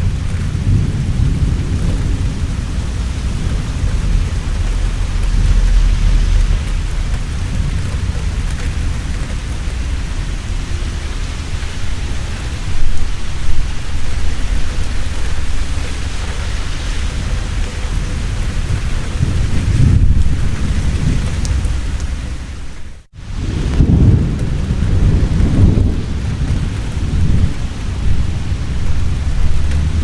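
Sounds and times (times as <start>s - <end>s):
heavy rain: 0.0s - 30.0s
rolling thunder: 0.0s - 30.0s.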